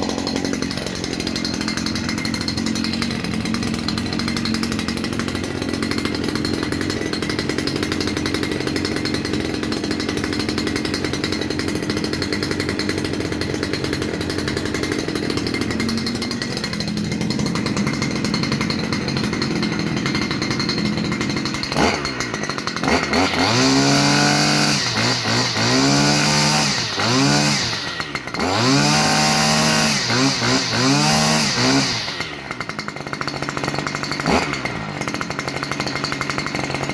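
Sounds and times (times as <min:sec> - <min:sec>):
brushcutter engine idling and revving: 0:00.0 - 0:36.9.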